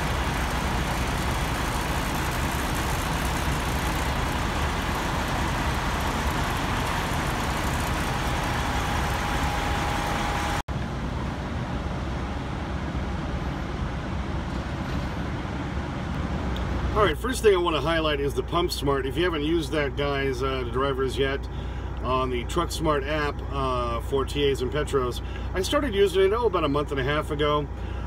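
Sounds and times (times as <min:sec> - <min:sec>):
faint steady whine: 0:00.0 - 0:28.0
trucks idling: 0:00.0 - 0:28.0.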